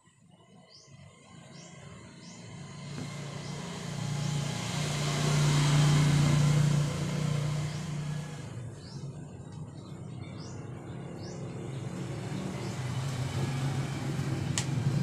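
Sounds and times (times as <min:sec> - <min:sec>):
vehicle passing by: 0:01.2 - 0:15.0.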